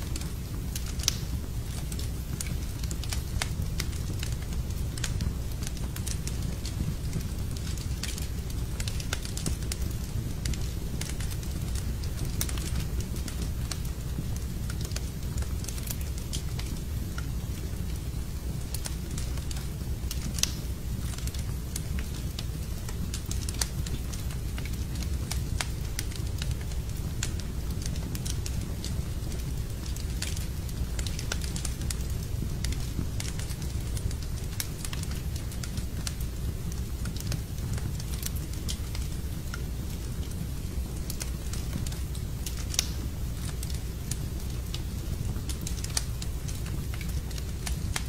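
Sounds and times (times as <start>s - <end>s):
low rumble of fire: 0.0s - 48.0s
wood fire crackling and popping: 0.0s - 48.0s.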